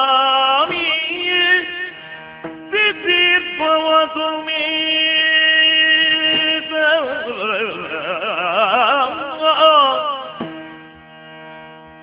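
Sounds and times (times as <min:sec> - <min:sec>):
man singing melisma: 0:00.0 - 0:02.0, 0:02.7 - 0:10.5.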